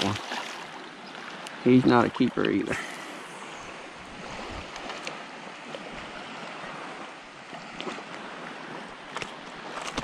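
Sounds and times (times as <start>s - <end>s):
shallow water swishing and lapping: 0.0s - 10.0s.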